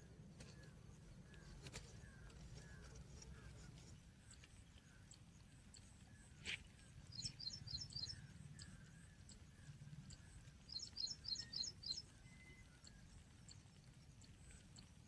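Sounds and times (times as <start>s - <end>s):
small bird chirping: 0.5s - 15.0s.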